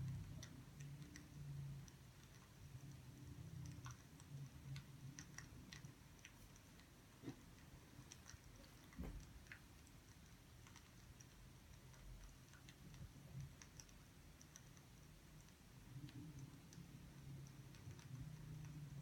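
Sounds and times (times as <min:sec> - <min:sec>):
faint clicks and ticks: 0:00.0 - 0:19.0.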